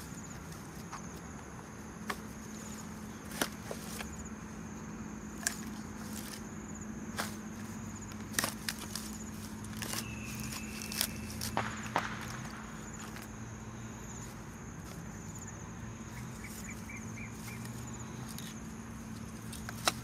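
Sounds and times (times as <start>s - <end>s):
insects trilling: 0.0s - 20.0s
low steady hum: 0.0s - 20.0s.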